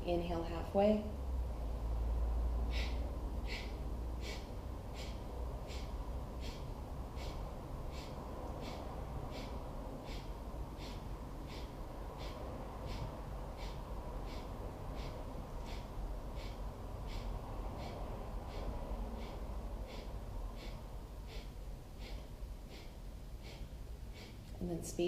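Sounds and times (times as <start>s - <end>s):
steady low hum: 0.0s - 25.0s
forceful nasal exhales: 2.6s - 24.5s.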